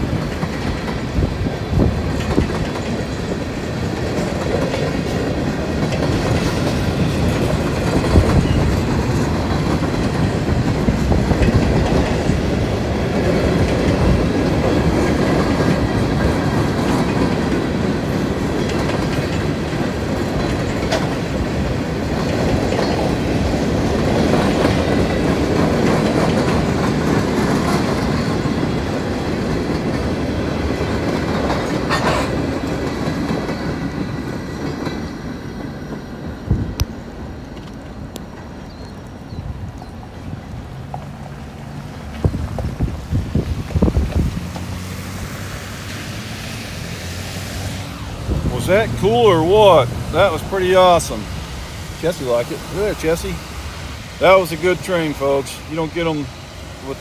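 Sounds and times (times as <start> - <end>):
train cars clanking: 0.0 - 57.0
train wheels rumbling on rails: 0.0 - 57.0.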